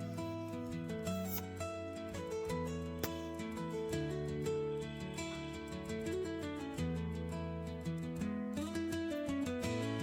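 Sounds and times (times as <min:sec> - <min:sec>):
plucked guitar tune: 0:00.0 - 0:10.0.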